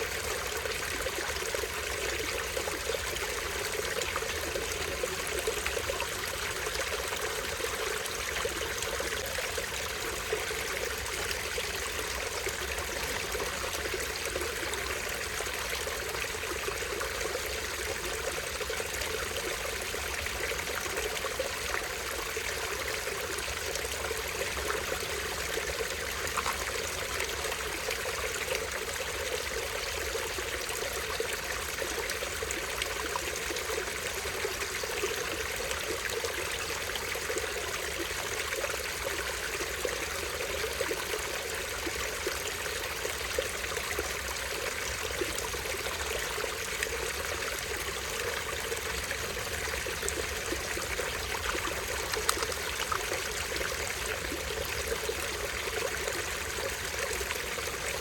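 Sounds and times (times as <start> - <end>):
stream trickling over small waterfall: 0.0 - 58.0.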